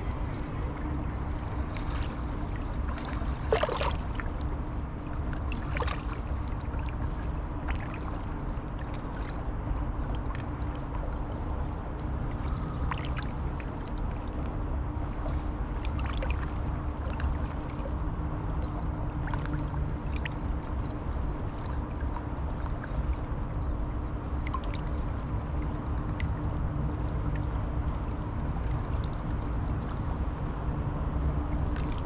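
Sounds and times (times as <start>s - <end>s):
constant low hum: 0.0s - 32.0s
low river rumble: 0.0s - 32.0s.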